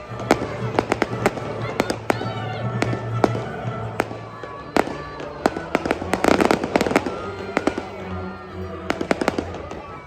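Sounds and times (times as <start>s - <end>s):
fireworks bangs: 0.0s - 8.0s, 8.8s - 10.0s
background music: 0.0s - 10.0s.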